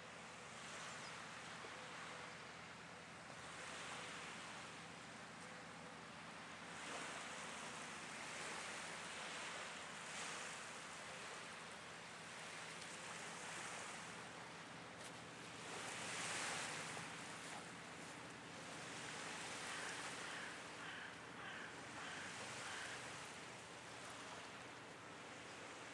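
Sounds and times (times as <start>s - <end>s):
small waves washing onto beach: 0.0s - 25.9s.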